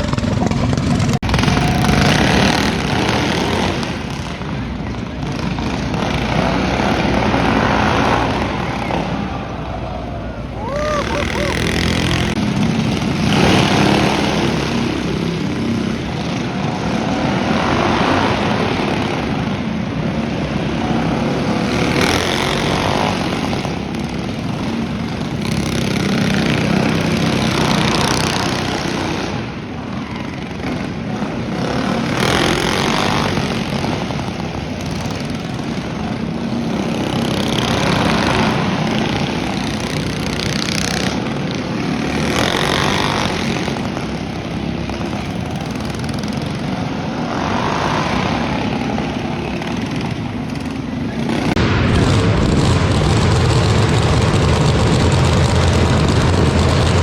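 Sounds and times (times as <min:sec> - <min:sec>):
mini bike engines passing: 0:00.0 - 0:57.0.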